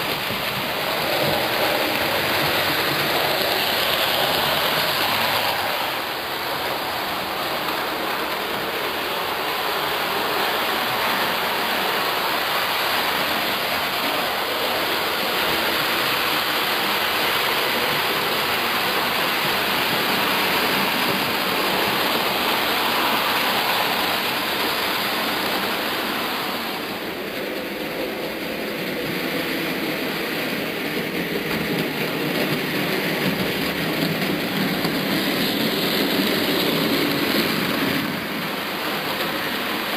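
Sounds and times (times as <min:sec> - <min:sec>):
model trains rumbling on track: 0:00.0 - 0:39.9.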